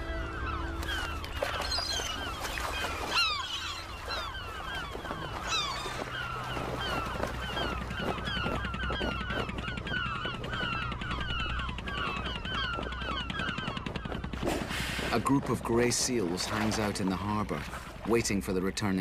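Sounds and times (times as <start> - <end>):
low steady drone: 0.0 - 18.6
gulls calling: 0.0 - 19.0.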